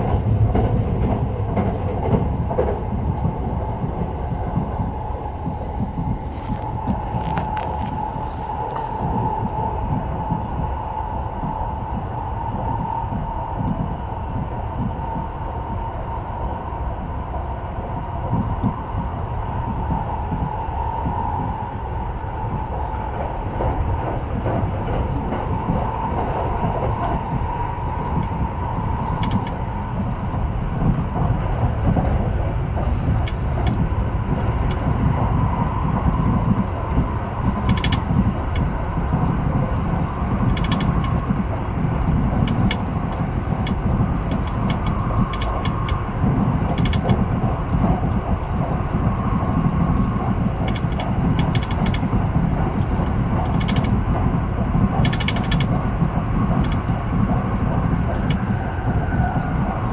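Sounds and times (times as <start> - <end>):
continuous hum: 0.0 - 59.9
train wheels rumbling on rails: 0.0 - 59.9.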